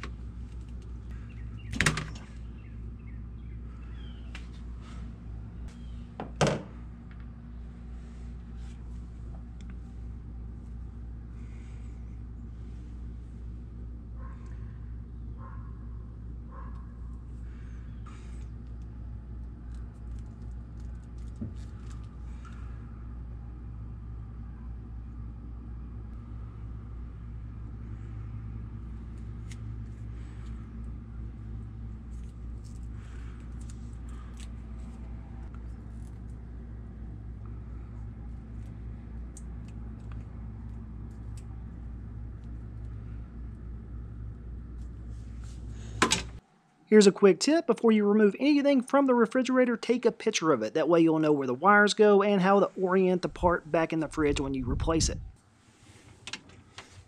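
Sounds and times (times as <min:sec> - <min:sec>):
low background rumble: 0:00.0 - 0:46.7, 0:53.2 - 0:57.0.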